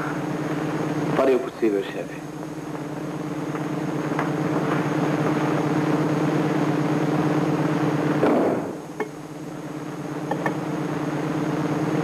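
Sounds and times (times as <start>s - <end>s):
low electrical machinery hum: 0.0s - 12.0s.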